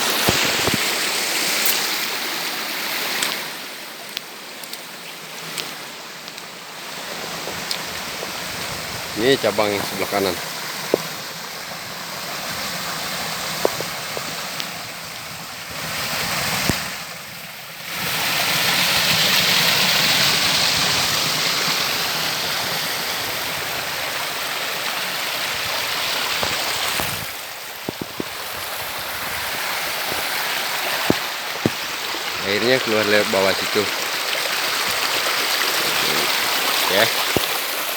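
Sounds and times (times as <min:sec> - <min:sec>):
river water rushing over rocks: 0:00.0 - 0:37.9.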